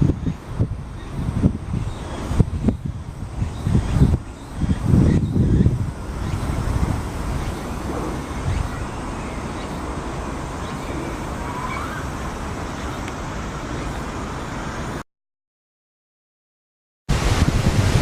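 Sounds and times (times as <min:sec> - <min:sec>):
steady outdoor hiss: 0:00.0 - 0:15.0, 0:17.1 - 0:18.0
wind buffeting microphone: 0:00.0 - 0:15.0, 0:17.1 - 0:18.0.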